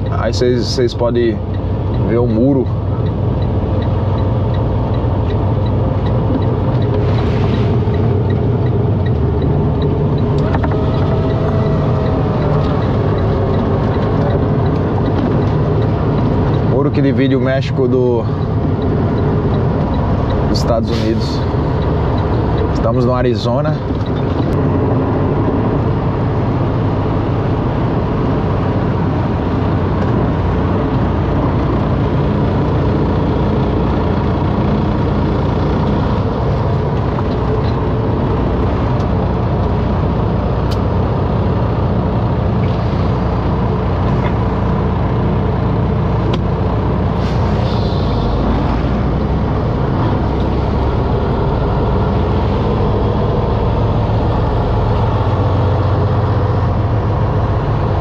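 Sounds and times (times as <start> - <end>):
diesel truck engine running: 0.0 - 58.0
road rumble: 0.0 - 58.0.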